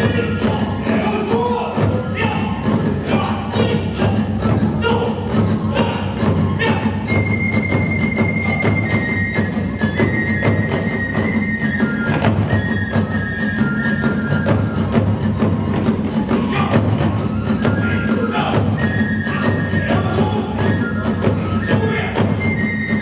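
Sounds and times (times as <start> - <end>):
fast drum beats: 0.0 - 23.0
high flute melody: 0.0 - 23.0.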